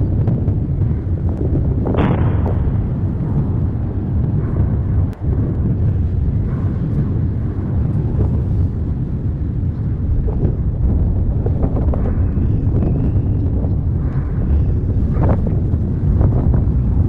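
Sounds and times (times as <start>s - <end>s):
volcano low rumble: 0.0s - 17.0s.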